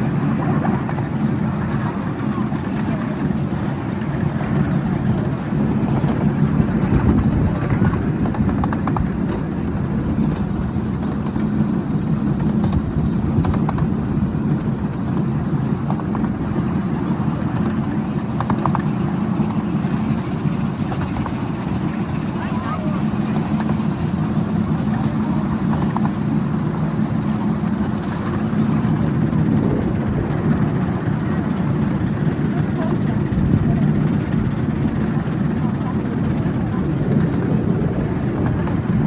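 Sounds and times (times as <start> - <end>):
miniature train rumbling: 0.0 - 39.0.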